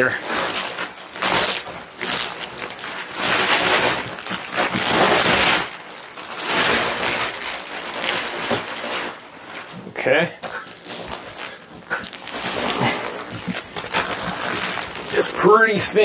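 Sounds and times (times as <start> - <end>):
plastic wrapping rustling: 0.0 - 16.0.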